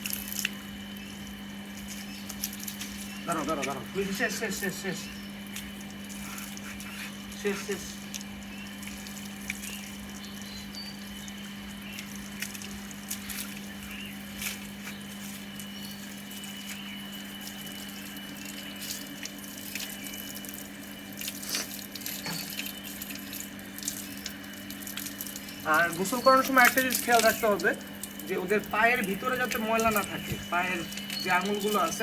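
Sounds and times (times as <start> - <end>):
steady low hum: 0.0 - 32.0
water splashing and dripping: 0.0 - 32.0.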